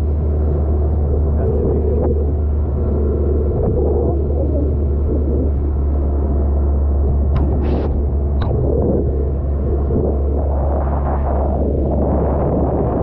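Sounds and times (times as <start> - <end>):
boat motor rumbling: 0.0 - 13.0
water rushing along hull: 0.0 - 13.0
wind on microphone: 0.0 - 13.0.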